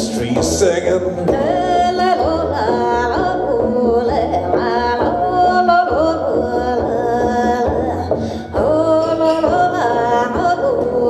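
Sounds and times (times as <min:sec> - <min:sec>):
plucked double bass: 0:00.0 - 0:11.0
woman singing wordless melody: 0:01.2 - 0:11.0.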